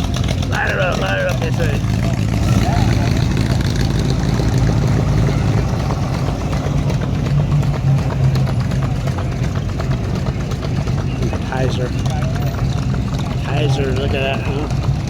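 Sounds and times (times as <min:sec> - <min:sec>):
car engine rumbling past: 0:00.0 - 0:15.0.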